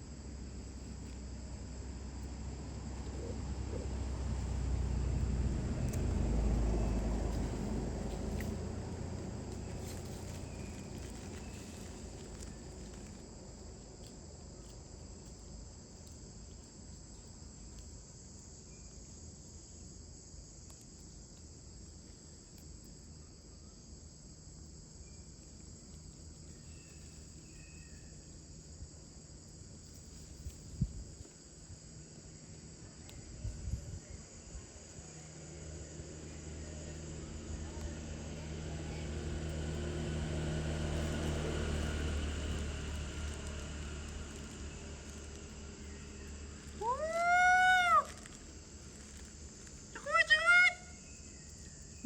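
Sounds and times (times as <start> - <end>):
insect chorus droning: 0.0 - 52.0.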